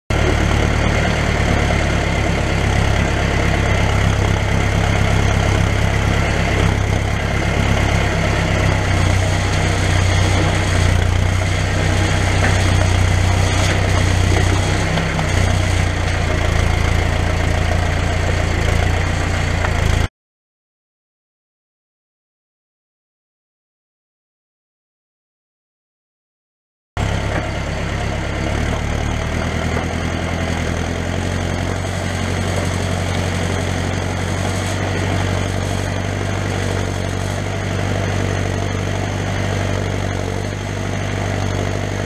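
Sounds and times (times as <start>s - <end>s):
diesel dumper engine running: 0.1s - 20.1s, 27.0s - 42.0s.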